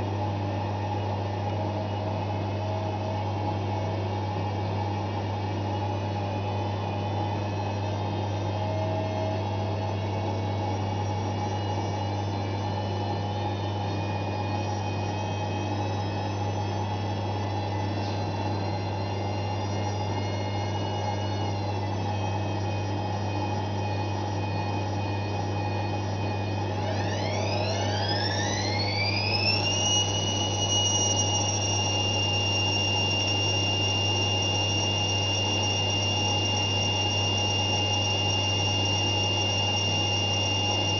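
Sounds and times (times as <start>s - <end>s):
high whine of drum: 0.0s - 40.9s
washing machine spinning: 0.0s - 40.9s.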